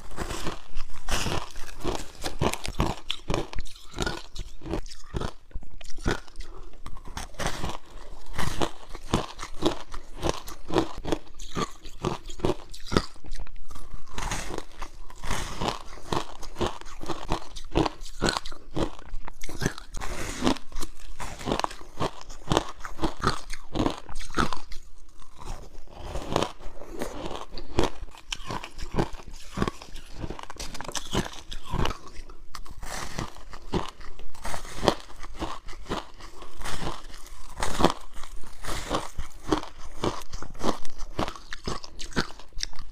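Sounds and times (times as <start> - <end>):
crunchy ice being chewed: 0.0 - 42.9.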